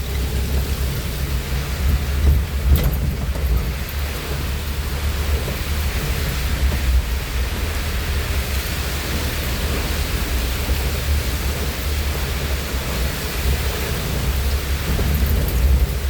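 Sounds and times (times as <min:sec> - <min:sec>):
heavy rain pouring: 0:00.0 - 0:16.0
strong wind: 0:00.0 - 0:16.0.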